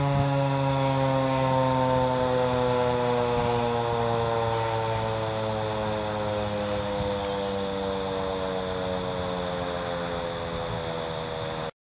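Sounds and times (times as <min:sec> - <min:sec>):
insect trill: 0:00.0 - 0:11.7
siren winding down: 0:00.0 - 0:11.7.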